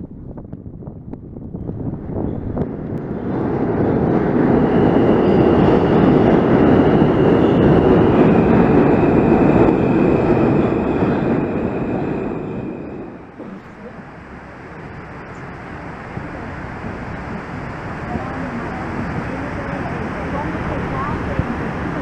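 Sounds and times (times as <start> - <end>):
train rumbling past: 1.4 - 22.0
high whining tones: 2.0 - 22.0.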